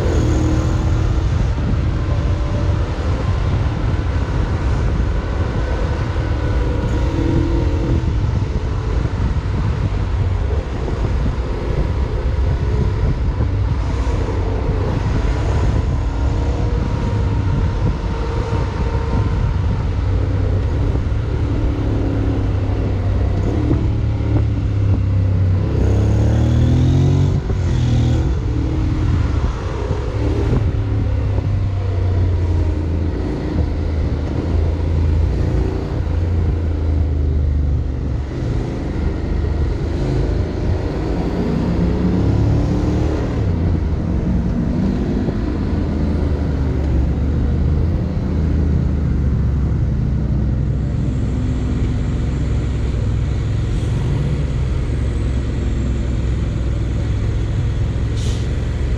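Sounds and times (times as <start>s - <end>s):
motorcycle riding rumble: 0.0s - 58.9s
vehicle accelerating: 0.0s - 58.9s.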